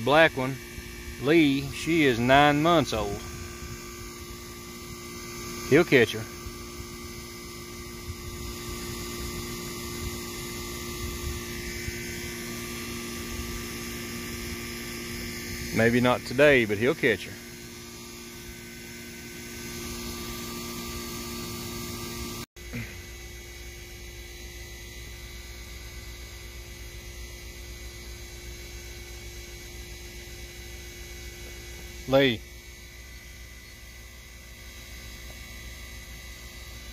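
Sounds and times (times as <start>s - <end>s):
steady tonal hum: 0.0s - 36.9s.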